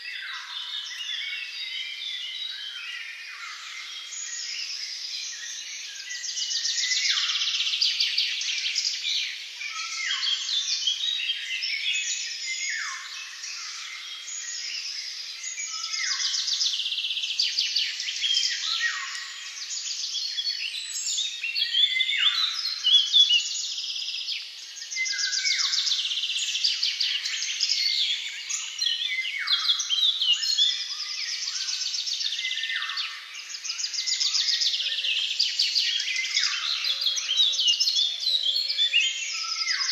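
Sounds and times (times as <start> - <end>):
songbirds singing in chorus: 0.0 - 39.9.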